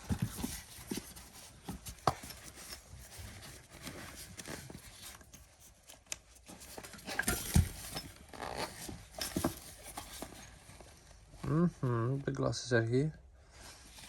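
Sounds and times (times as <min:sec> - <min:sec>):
rustling of unpacking: 0:00.0 - 0:12.2, 0:13.4 - 0:14.0.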